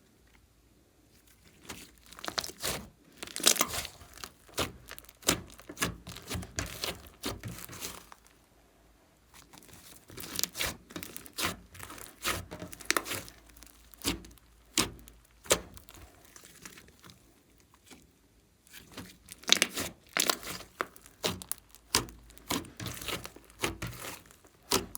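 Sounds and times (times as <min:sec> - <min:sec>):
slime squished by hand: 0:01.3 - 0:08.5, 0:09.3 - 0:18.1, 0:18.7 - 0:24.9.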